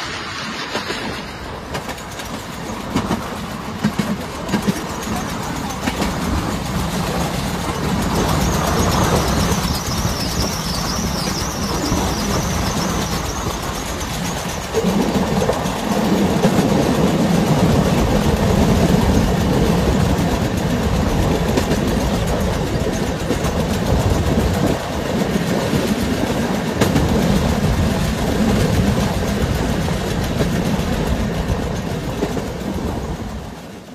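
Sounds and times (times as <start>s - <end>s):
train wheels on rails: 0.0s - 33.9s.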